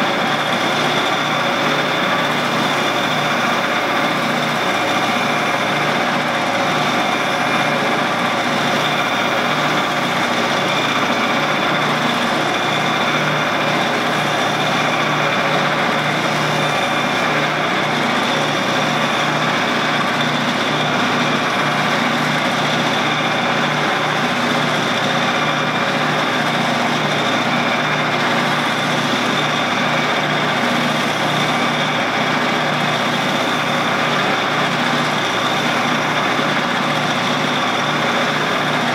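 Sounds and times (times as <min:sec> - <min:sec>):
lathe motor hum and whine: 0:00.0 - 0:38.9.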